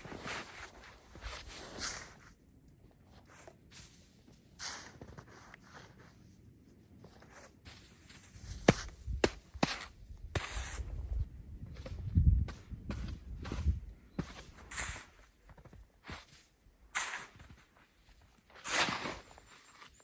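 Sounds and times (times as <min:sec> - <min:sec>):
crunching in snow: 0:00.0 - 0:02.4, 0:03.0 - 0:11.2, 0:13.4 - 0:20.0.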